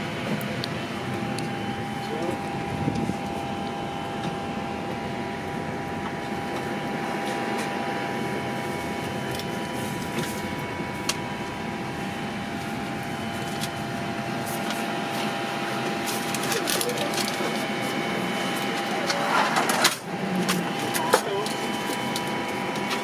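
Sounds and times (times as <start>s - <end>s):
cockpit fans humming: 0.0s - 23.0s.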